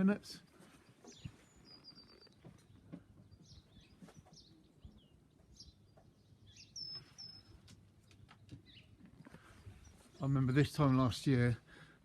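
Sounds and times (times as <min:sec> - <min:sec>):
faint songbirds chirping: 0:00.0 - 0:12.0.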